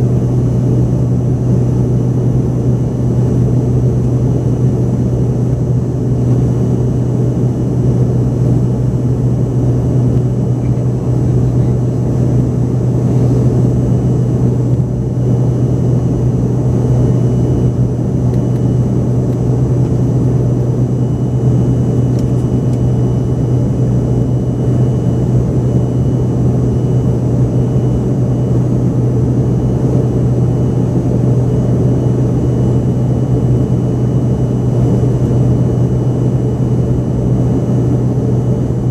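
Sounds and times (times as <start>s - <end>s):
faint high engine whine: 0.0s - 38.9s
jet engine cabin drone: 0.0s - 38.9s.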